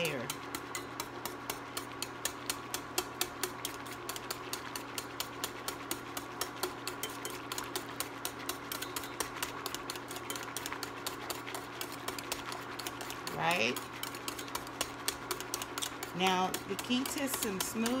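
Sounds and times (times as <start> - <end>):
wire whisk clicking in a pan: 0.0 - 11.3, 12.0 - 18.0
steady hum: 0.0 - 18.0.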